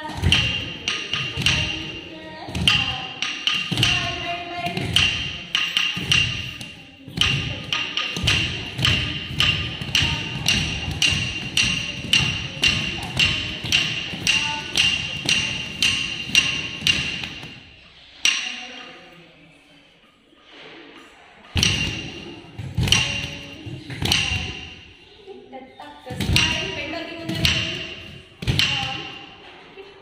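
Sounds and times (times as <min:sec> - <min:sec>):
stick beating on wooden block: 0:00.0 - 0:18.6, 0:21.6 - 0:24.9, 0:26.1 - 0:29.6.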